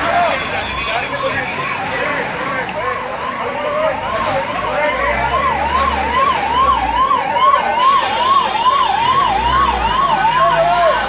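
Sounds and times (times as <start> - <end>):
emergency siren wailing: 0.0 - 11.0
vehicle engines rumbling: 0.0 - 11.0.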